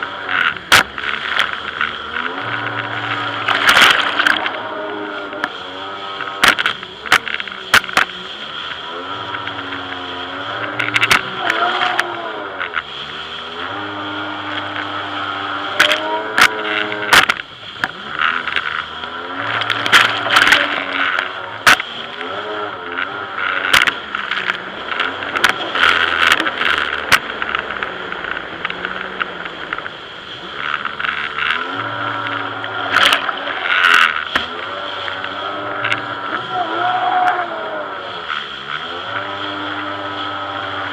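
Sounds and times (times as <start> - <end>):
jet ski engine running: 0.0 - 40.9
rushing water and wind: 0.0 - 40.9.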